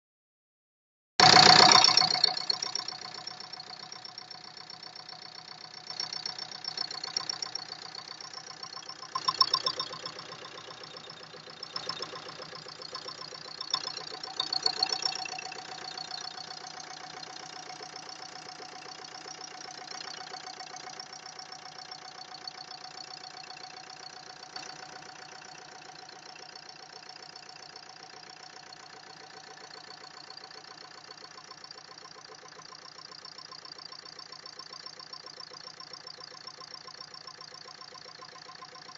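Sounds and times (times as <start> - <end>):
engine running with knocking tick: 1.2 - 38.9.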